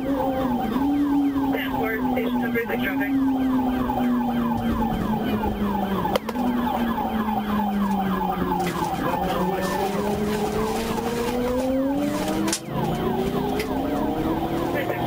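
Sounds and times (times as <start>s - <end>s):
car engine accelerating: 0.0s - 15.0s
police siren yelping: 0.0s - 15.0s.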